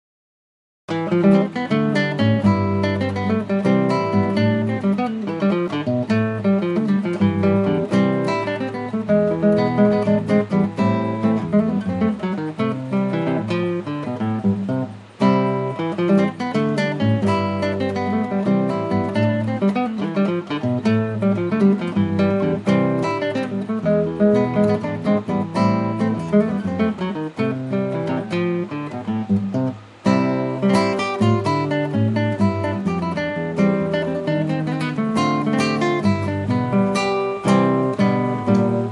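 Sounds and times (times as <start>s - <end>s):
acoustic guitar music: 0.9s - 38.9s.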